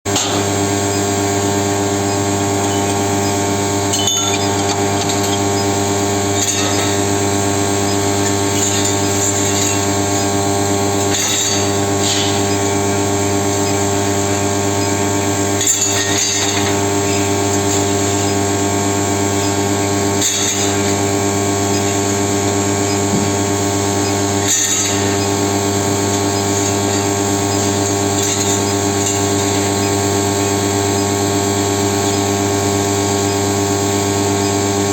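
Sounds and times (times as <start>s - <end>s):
induction heater humming and whining: 0.1s - 34.9s.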